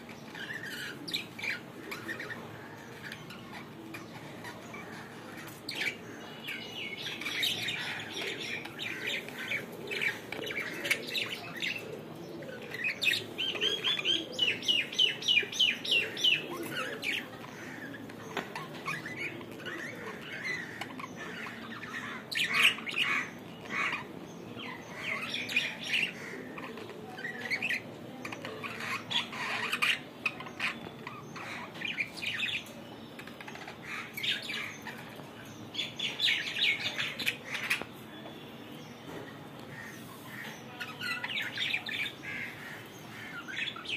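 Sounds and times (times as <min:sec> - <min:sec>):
budgerigars chirping and squawking: 0:00.1 - 0:38.0, 0:39.1 - 0:43.9.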